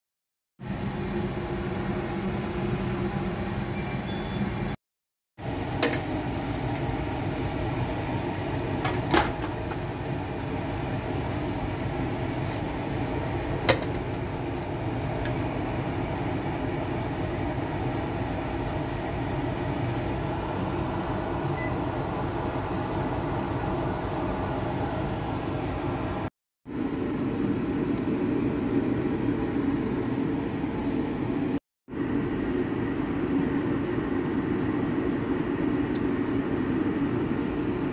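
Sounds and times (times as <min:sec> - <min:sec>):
wok steaming hum: 0:00.6 - 0:04.4, 0:05.4 - 0:37.9.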